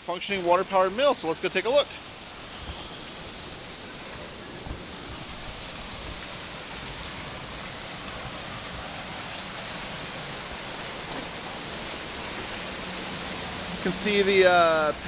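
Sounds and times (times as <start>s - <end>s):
creek and waterfall rushing: 0.0s - 15.0s.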